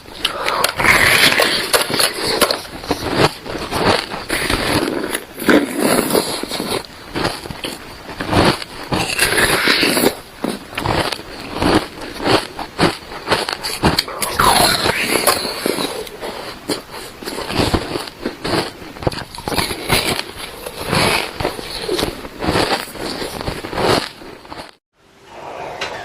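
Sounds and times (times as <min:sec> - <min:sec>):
crunching bites of ice: 0:00.2 - 0:24.7.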